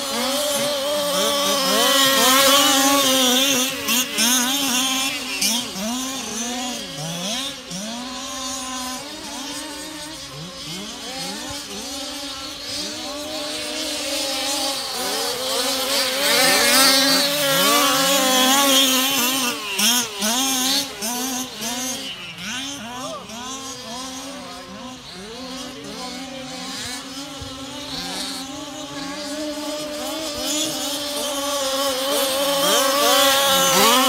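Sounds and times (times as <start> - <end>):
rc car engines revving: 0.0 - 34.0.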